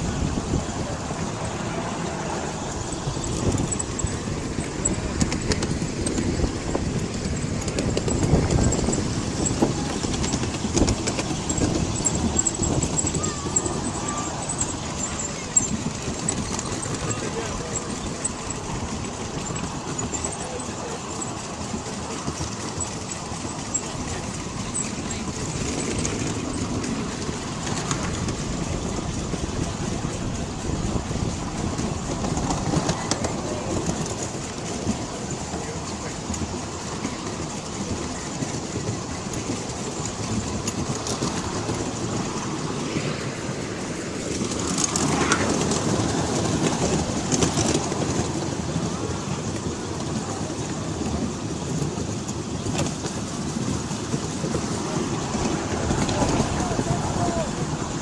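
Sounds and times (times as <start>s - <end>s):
miniature train rumbling on track: 0.0s - 58.0s.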